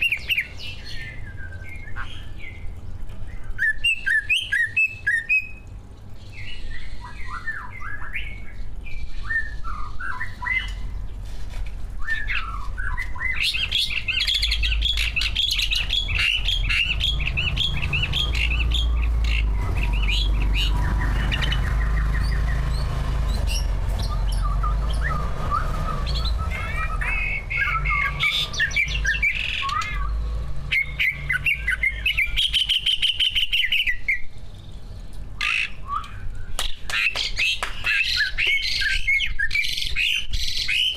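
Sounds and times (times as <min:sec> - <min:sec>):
bird singing chirps and trills: 0:00.0 - 0:11.2, 0:11.9 - 0:40.9.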